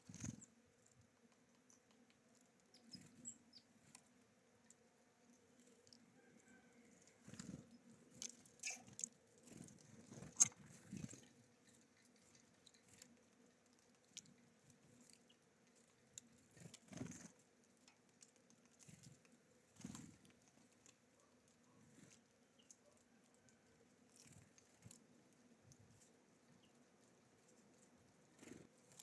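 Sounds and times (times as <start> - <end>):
birds pecking seed: 0.0 - 29.0.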